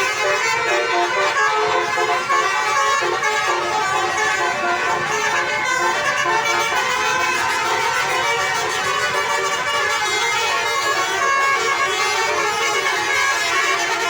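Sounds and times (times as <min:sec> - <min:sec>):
bus musical horn playing a tune: 0:00.0 - 0:14.0.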